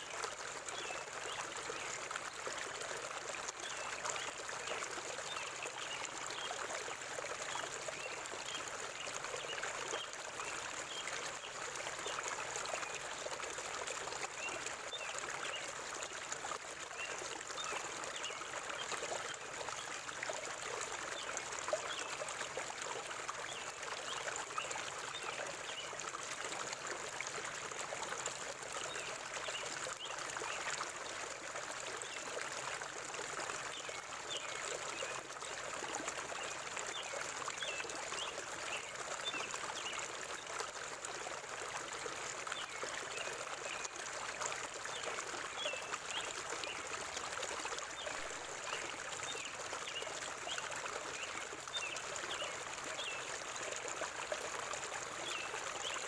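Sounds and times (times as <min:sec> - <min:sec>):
river water flowing and bubbling: 0:00.0 - 0:56.0.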